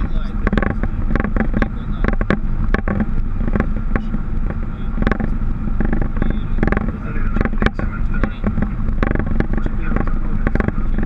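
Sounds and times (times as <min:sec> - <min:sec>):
constant hum: 0:00.0 - 0:11.0
engine and airflow rumble: 0:00.0 - 0:11.0
knocks and rattles: 0:00.0 - 0:11.0.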